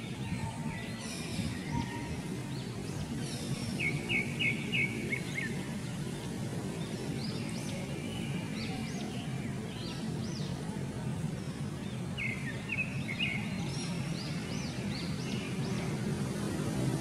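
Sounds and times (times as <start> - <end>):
birds chirping: 0.0 - 16.5.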